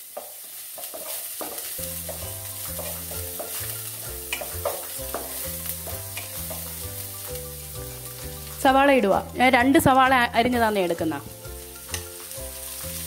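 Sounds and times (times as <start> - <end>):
paste sizzling in butter: 0.0 - 13.0
background music with bass line: 1.8 - 13.0.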